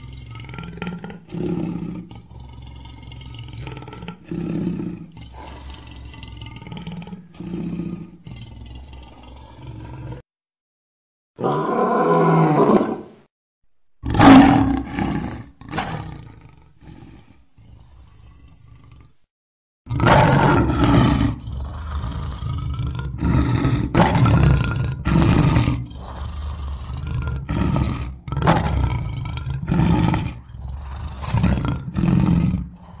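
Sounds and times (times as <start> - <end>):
lion roaring: 0.0 - 10.3, 11.4 - 13.1, 14.0 - 19.2, 19.9 - 33.0.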